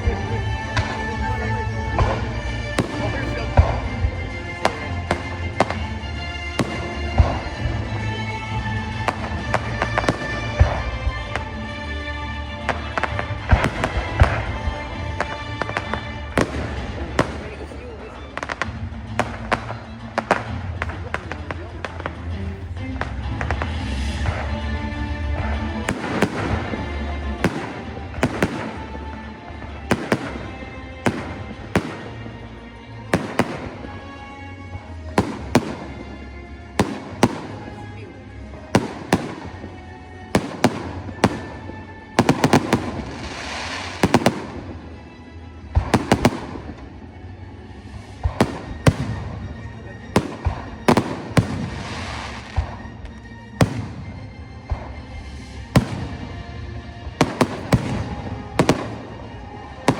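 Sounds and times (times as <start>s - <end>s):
fireworks bangs: 0.0s - 11.6s, 12.6s - 22.4s, 25.2s - 34.4s, 35.0s - 47.0s, 47.9s - 59.9s
fireworks crackling: 0.0s - 47.2s, 47.8s - 59.9s
music soundtrack: 0.0s - 59.9s.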